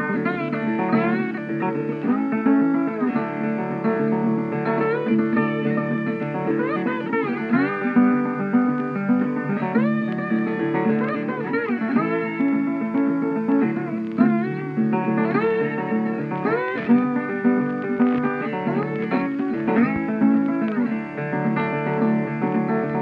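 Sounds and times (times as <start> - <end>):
plucked guitar music: 0.0 - 23.0.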